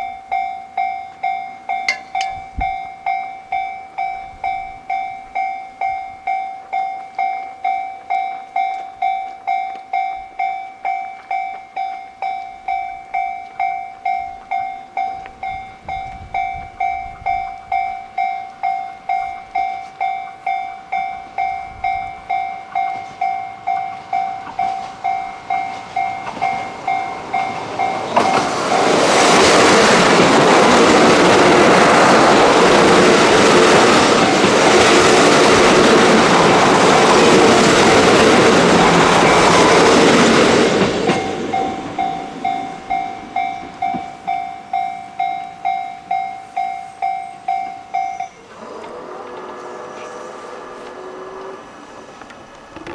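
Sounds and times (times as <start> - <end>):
level crossing alarm clanging: 0.0 - 50.1
diesel train passing: 0.0 - 52.9.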